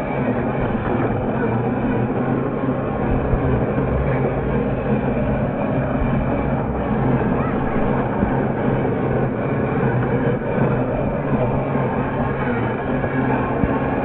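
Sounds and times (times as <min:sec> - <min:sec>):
toy car motor rumbling: 0:00.0 - 0:14.0.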